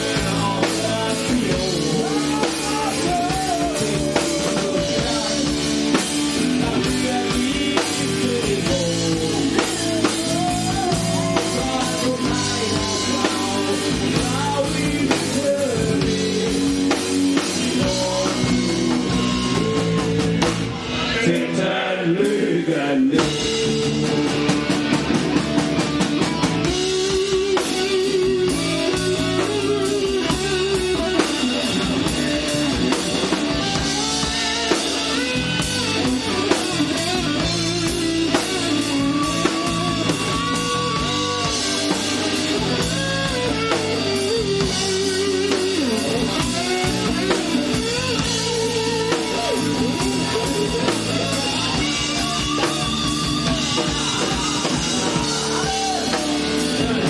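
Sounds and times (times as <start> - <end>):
person singing: 0.0 - 24.5, 26.6 - 57.0
drum kit: 0.0 - 57.0
electric guitar: 0.0 - 57.0.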